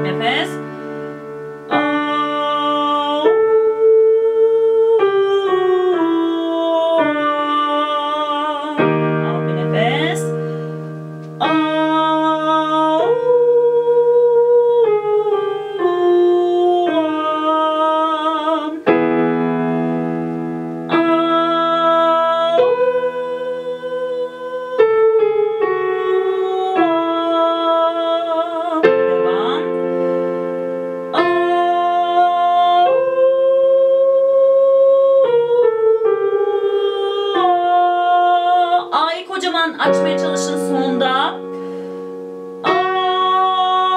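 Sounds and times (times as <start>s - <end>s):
digital piano chords: 0.0s - 43.9s
woman singing vocal warm-up: 0.0s - 43.9s.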